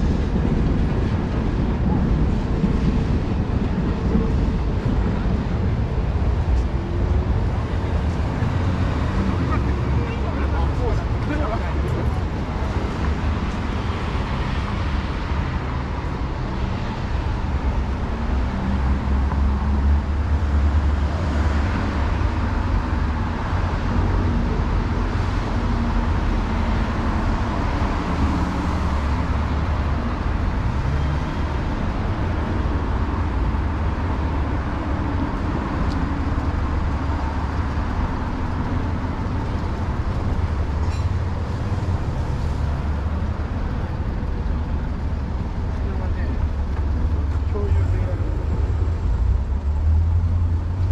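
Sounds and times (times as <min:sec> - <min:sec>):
street traffic rumble: 0:00.0 - 0:50.9.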